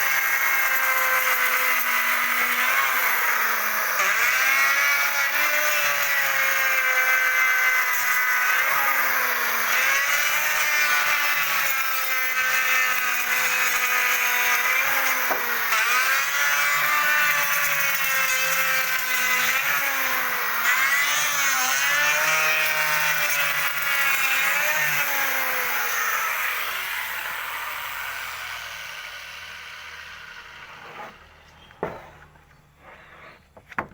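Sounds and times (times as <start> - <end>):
electric router cutting wood: 0.0 - 33.3.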